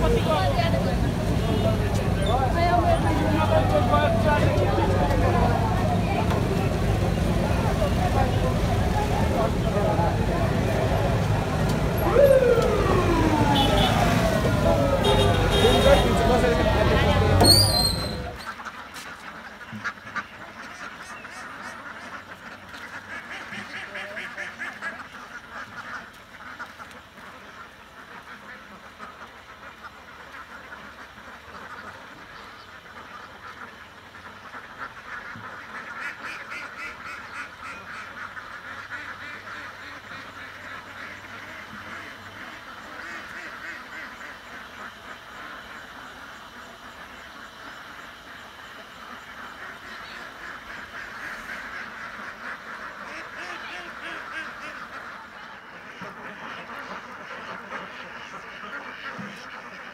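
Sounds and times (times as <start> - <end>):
ducks quacking: 0.0 - 59.9.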